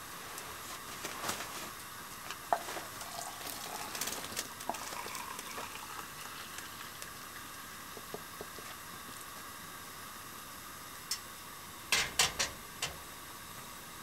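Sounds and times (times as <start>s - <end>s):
water heating hiss: 0.0s - 14.0s.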